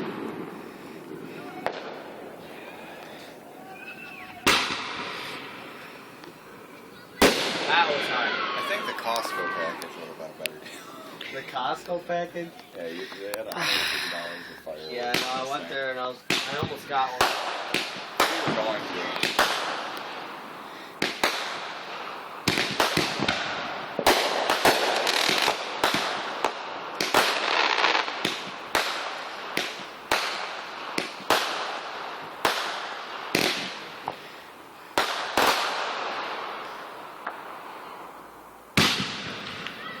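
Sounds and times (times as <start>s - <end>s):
fireworks banging and crackling: 0.0s - 40.0s.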